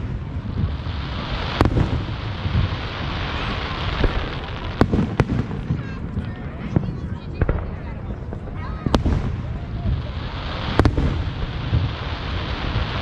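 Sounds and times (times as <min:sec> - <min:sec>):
firework bangs: 0:00.0 - 0:13.0
firework crackling: 0:00.0 - 0:13.0
rumble of distant explosions: 0:00.0 - 0:13.0.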